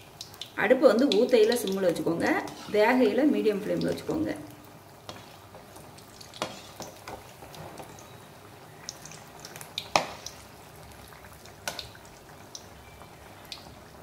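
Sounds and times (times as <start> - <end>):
batter deep-frying in hot oil: 0.0 - 14.0.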